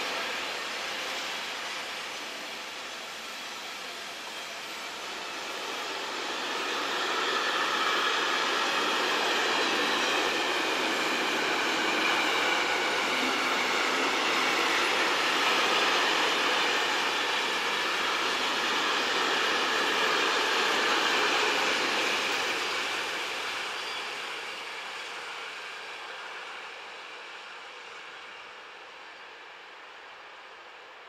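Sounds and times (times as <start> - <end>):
train wheels rolling on rails: 0.0 - 30.9.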